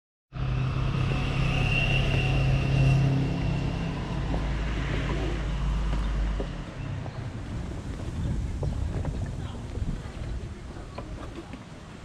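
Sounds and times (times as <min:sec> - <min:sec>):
low vehicle rumble: 0:00.3 - 0:12.0.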